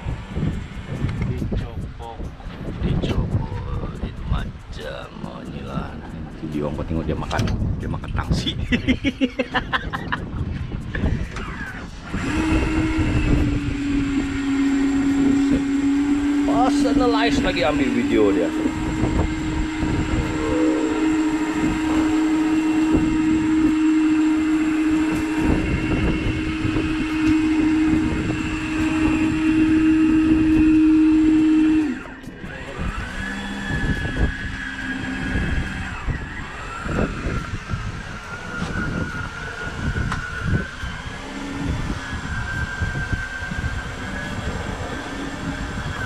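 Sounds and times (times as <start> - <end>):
engine rumble: 0.0 - 46.0
fishing reel motor whining: 0.0 - 46.0
higher wavering whine: 0.0 - 46.0.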